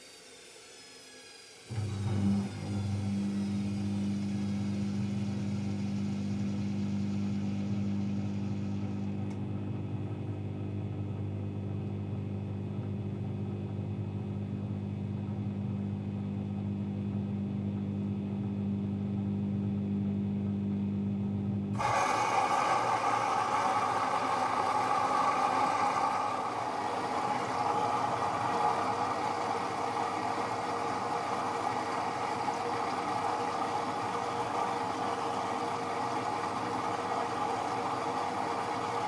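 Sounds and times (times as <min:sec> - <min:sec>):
washing machine humming: 0:00.0 - 0:39.0.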